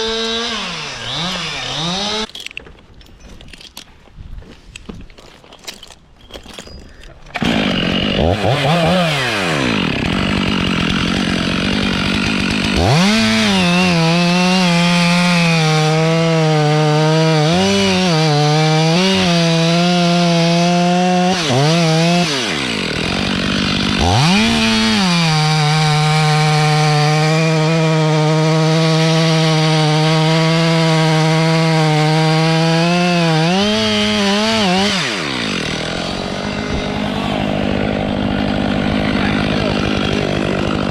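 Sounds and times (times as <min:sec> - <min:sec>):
chainsaw cutting wood: 0:00.0 - 0:02.7, 0:07.3 - 0:40.9.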